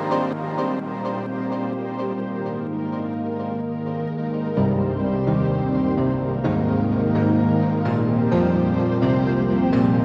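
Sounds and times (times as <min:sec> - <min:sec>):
electronic music with sustained chords: 0:00.0 - 0:10.0.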